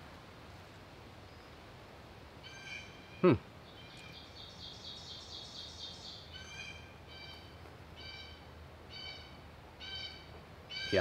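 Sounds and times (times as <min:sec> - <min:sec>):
faint forest background noise: 0:00.0 - 0:11.0.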